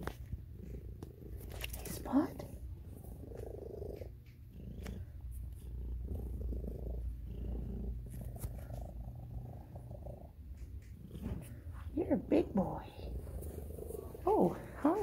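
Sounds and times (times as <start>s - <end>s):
cat purring loudly: 0.0s - 15.0s.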